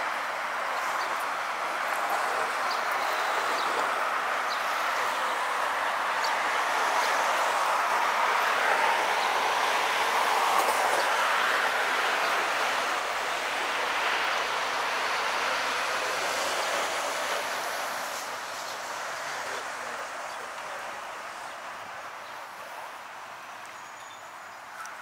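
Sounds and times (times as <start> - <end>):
cars passing with tyre hiss: 0.0 - 25.0.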